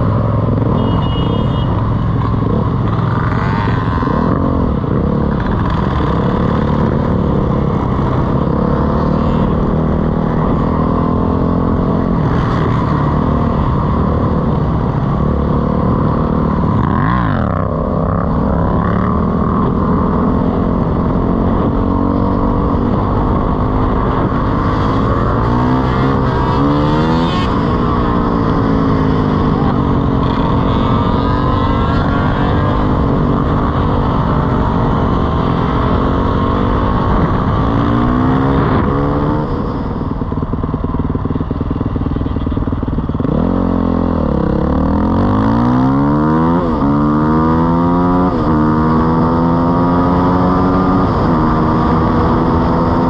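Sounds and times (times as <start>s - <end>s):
other motorcycles running: 0.0s - 53.0s.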